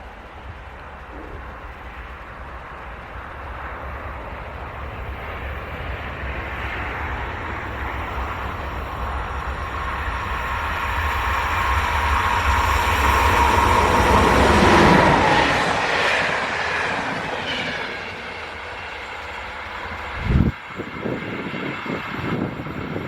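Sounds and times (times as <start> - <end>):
steady whine: 0.0 - 23.0
train rolling rumble: 0.0 - 23.0.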